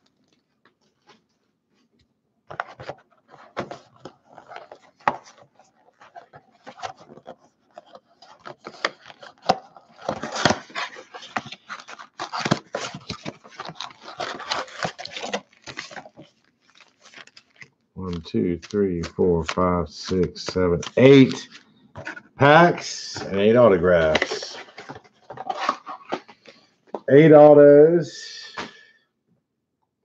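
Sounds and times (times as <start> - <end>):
cardboard box handled and opened: 2.5 - 27.6.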